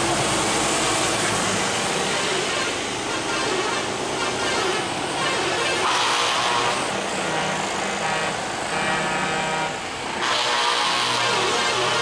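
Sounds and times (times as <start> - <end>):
heavy trucks driving past: 0.0 - 12.0.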